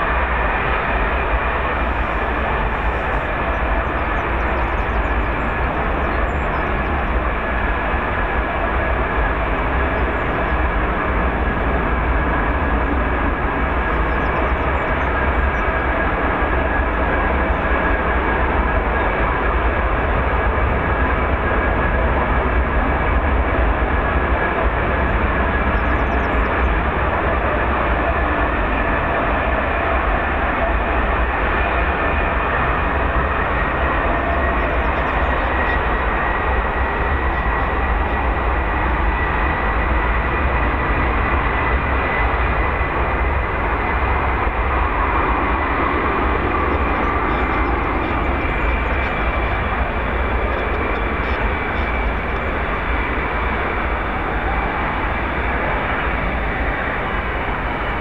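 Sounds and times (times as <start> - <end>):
jet engine rushing: 0.0 - 58.0.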